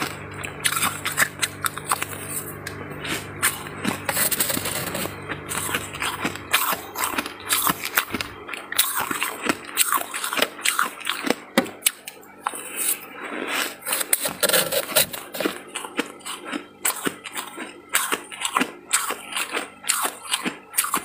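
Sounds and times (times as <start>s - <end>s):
frost being chewed: 0.0s - 21.0s.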